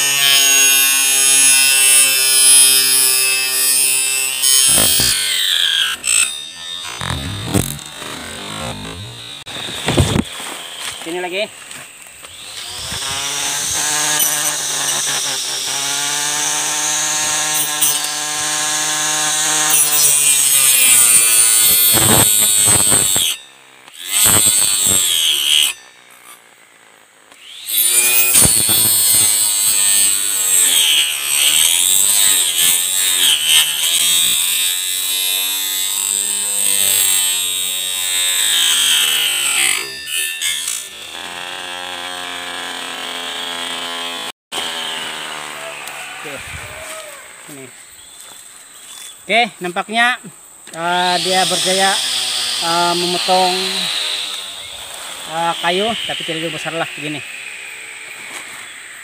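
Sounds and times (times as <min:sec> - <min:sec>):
trimmer cutting woody stem: 0:00.0 - 0:26.5, 0:27.3 - 0:49.2, 0:50.7 - 0:58.9
grass trimmer motor whining: 0:00.0 - 0:34.6, 0:35.2 - 0:49.4, 0:50.7 - 0:59.0.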